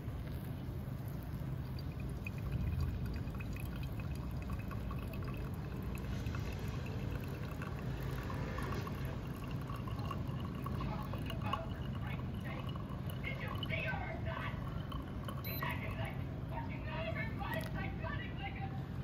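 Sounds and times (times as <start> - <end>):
liquid pouring and dripping: 0.0 - 16.2.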